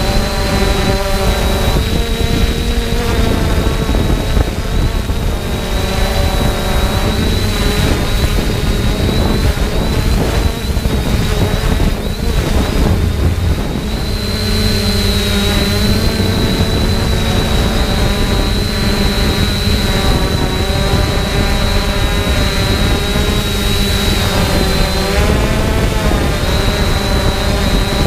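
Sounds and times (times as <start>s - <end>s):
drone propellers buzzing: 0.0s - 28.0s
high motor whine: 0.0s - 28.0s
wind rumble on microphone: 0.0s - 28.0s.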